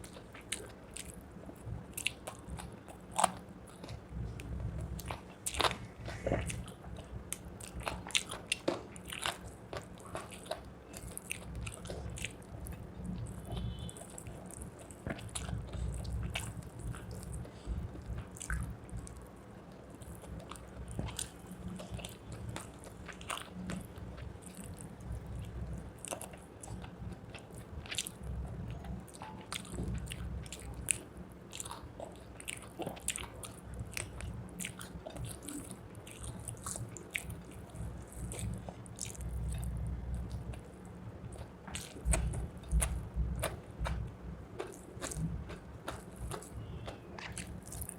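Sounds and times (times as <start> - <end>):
chewing and biting food: 0.0 - 47.9.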